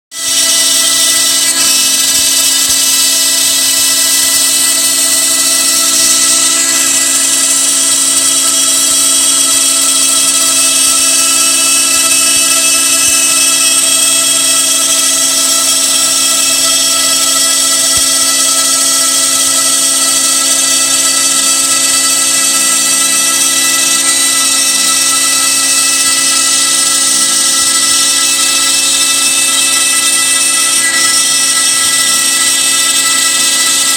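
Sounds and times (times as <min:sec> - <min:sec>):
router whining cutting wood: 0:00.1 - 0:33.9
shop vacuum running: 0:00.2 - 0:33.9.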